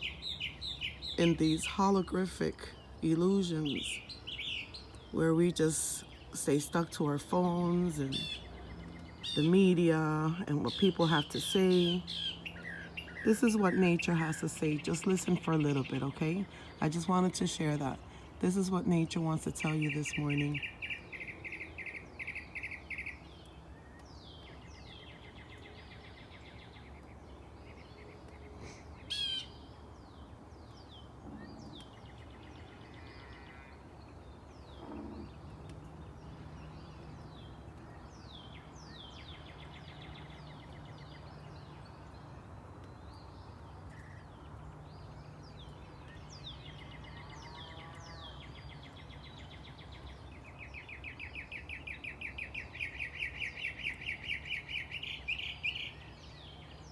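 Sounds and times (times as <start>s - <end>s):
birds singing: 0.0s - 56.9s.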